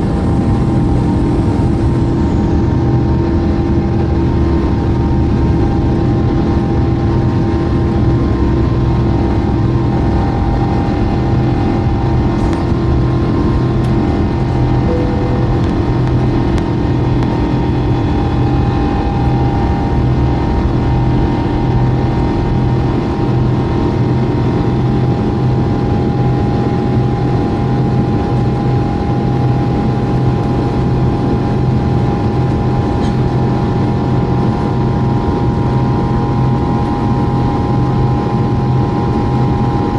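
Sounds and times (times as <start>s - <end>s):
jet engines roaring at takeoff: 0.0s - 39.9s.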